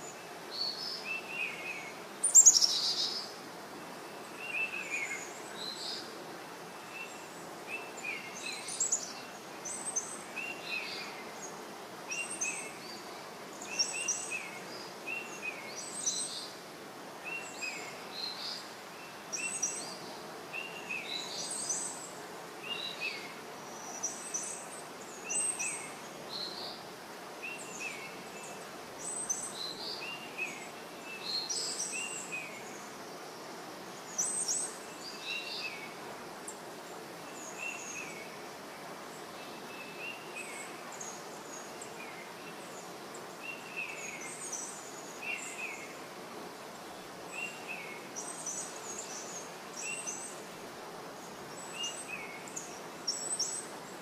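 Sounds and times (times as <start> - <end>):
small birds chirping: 0.0 - 50.6
outdoor hiss: 0.0 - 54.0.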